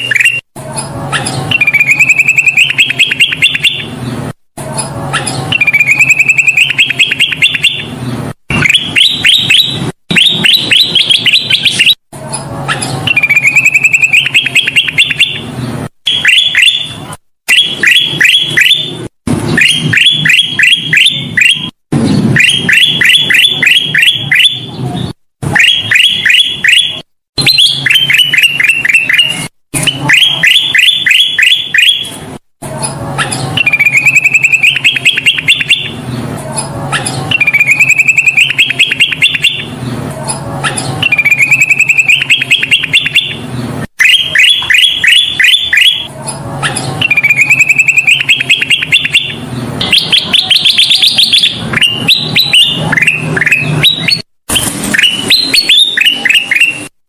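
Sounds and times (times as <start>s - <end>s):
bird chirping song: 0.0s - 32.2s, 32.8s - 56.9s.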